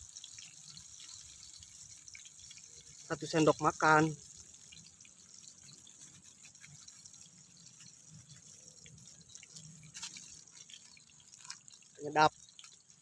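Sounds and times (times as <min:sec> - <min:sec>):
tomatoes sizzling in oil: 0:00.0 - 0:13.0.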